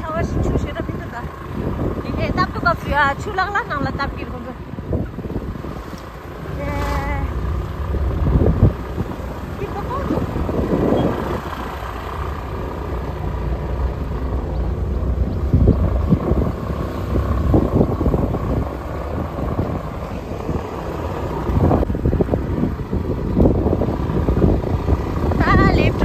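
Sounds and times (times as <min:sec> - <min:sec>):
motorbike engine hum: 0:00.0 - 0:26.0
wind buffeting microphone: 0:00.0 - 0:26.0.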